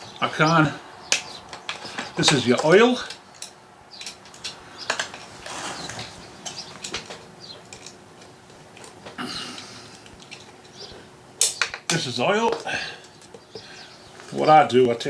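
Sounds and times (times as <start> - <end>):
plastic parts rustling: 1.1 - 13.6
clicks and knocks handling chainsaw: 1.1 - 15.0.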